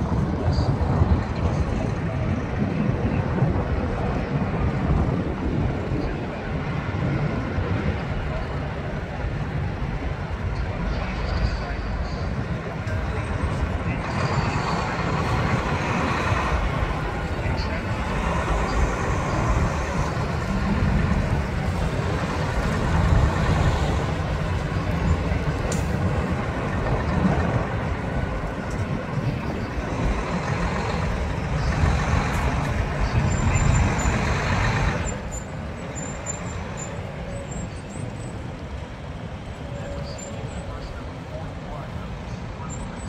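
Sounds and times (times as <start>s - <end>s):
heavy trucks driving past: 0.0s - 43.0s.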